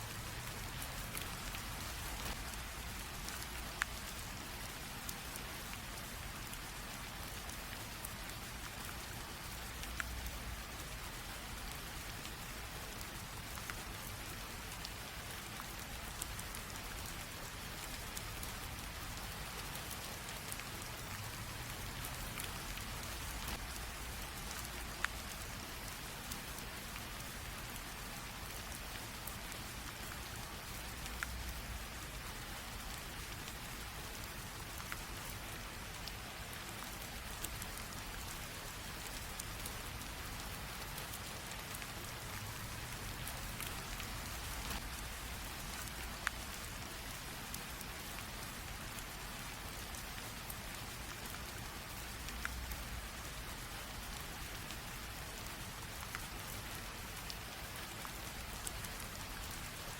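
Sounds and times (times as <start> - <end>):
light drizzling rain: 0.0 - 59.9.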